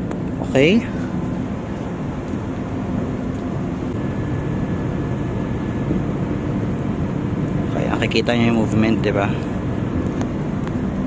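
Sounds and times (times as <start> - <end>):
ship machinery drone: 0.0 - 11.0
wind: 0.0 - 11.0.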